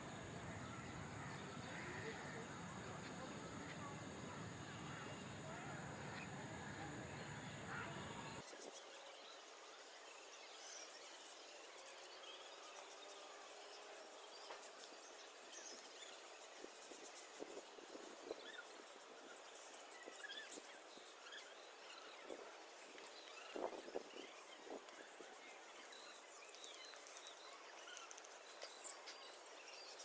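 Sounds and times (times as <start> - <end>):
faint outdoor background noise: 0.0 - 30.0.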